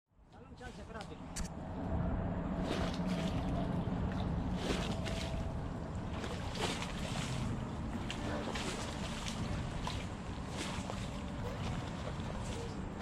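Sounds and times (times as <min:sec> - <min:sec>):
motorboat engine drone: 0:01.2 - 0:13.0
hiss of wind and water: 0:02.2 - 0:13.0.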